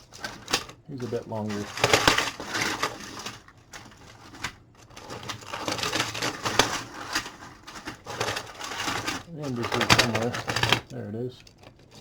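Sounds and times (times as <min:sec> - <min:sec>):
plastic track segments clicking: 0:00.0 - 0:12.0.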